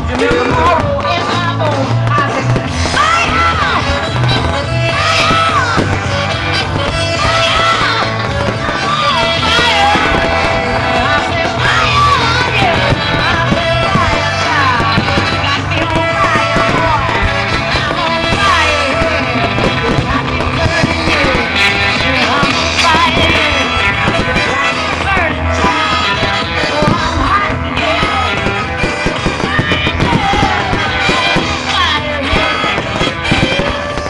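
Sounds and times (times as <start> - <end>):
rock music over loudspeakers: 0.0 - 34.0.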